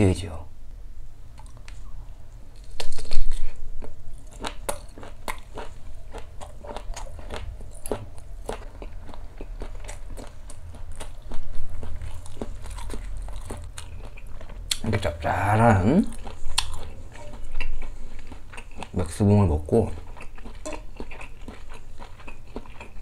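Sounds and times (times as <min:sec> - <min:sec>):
person chewing wet clicks: 0:02.6 - 0:15.2, 0:16.0 - 0:23.0.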